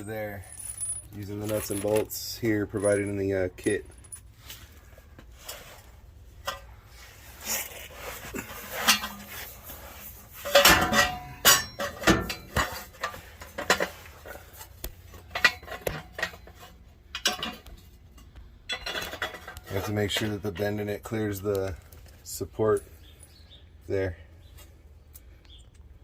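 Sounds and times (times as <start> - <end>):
metal pipe and bolts clanking: 0.0 - 7.0, 8.2 - 23.4.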